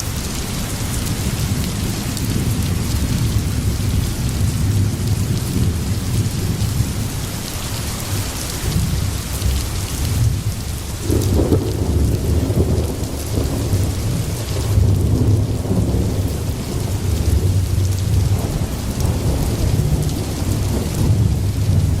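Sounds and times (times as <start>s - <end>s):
heavy rain: 0.0s - 22.0s
low rolling thunder: 0.2s - 22.0s.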